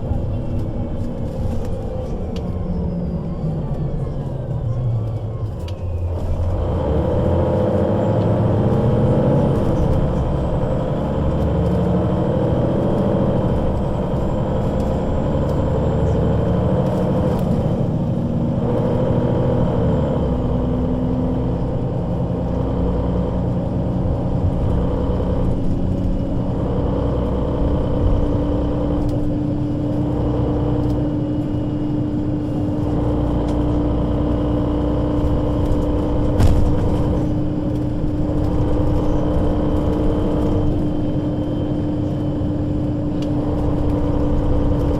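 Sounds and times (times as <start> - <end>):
bus engine: 0.0 - 44.9.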